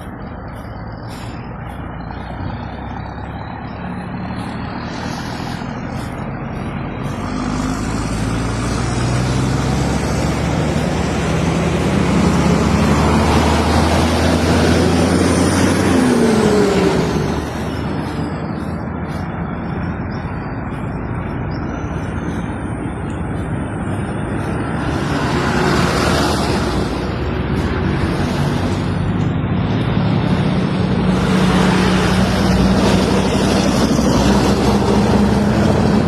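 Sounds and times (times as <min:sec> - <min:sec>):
heavy truck engine under load: 0:00.0 - 0:36.0.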